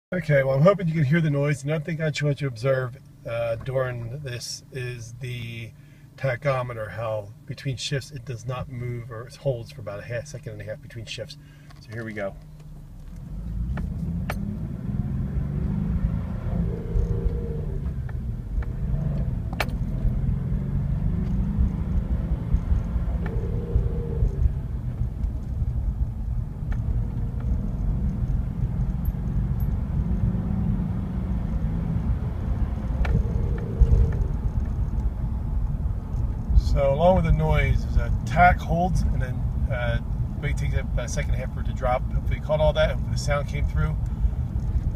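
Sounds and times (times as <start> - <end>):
whir during gear shifts: 0.1 - 44.9
car engine running: 8.1 - 44.9.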